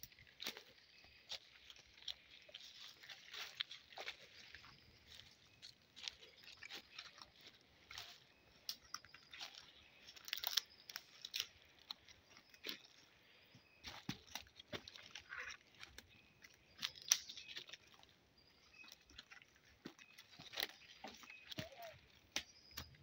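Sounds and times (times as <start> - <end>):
footsteps crunching through dry leaves: 0.0 - 23.0.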